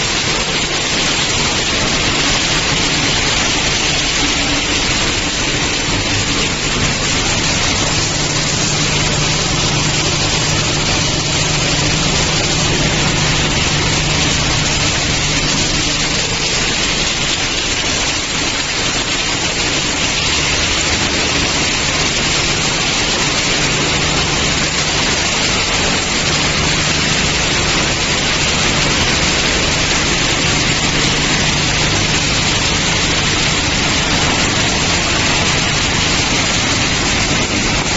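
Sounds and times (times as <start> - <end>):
low machine hum: 0.0 - 37.9
machinery hissing noise: 0.0 - 37.9.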